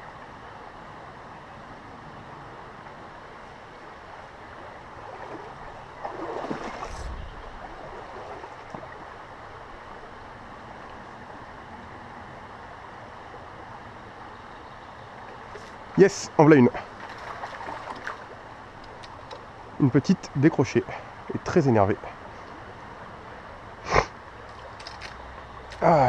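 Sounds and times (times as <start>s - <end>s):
river flowing: 0.0s - 26.0s.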